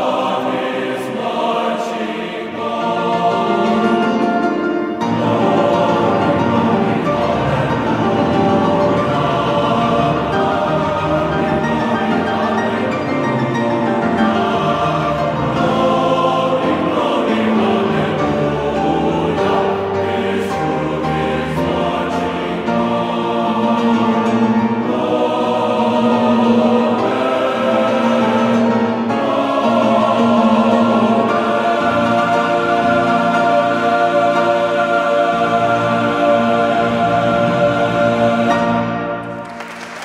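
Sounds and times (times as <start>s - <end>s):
background music with held chords: 0.0s - 39.4s.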